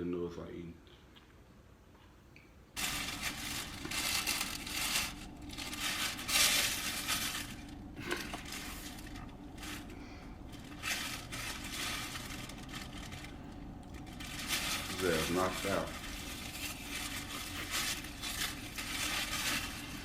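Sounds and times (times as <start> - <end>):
packaging crinkling and rustling: 2.8 - 20.0.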